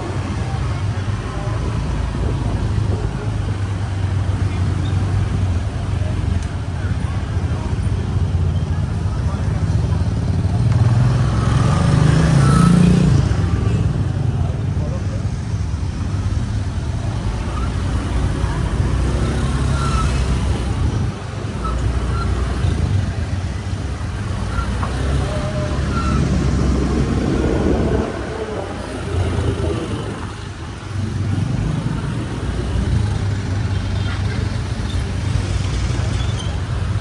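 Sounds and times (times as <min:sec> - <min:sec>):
car traffic: 0:00.0 - 0:37.0.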